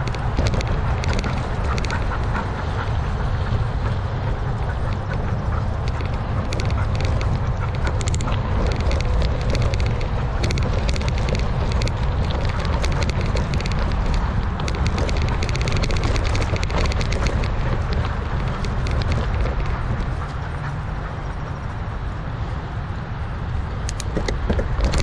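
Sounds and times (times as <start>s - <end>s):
tyres rumbling on dirt: 0.0s - 21.6s, 23.8s - 25.0s
bike clicking and rattling: 0.0s - 22.6s, 23.4s - 25.0s
wind buffeting microphone: 0.0s - 25.0s.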